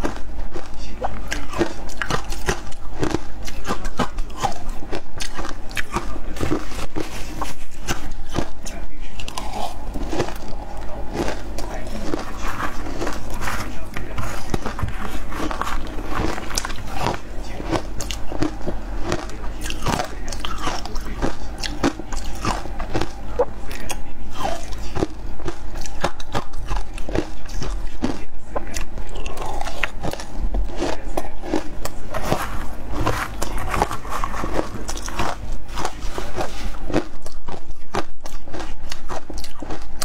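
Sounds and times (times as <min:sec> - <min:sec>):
ice being chewed: 0:00.0 - 0:40.0.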